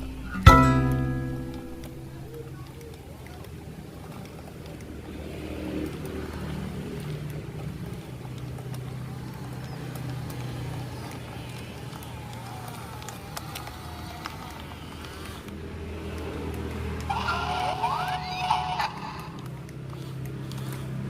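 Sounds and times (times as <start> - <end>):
heavy machinery engine droning: 0.0 - 21.0.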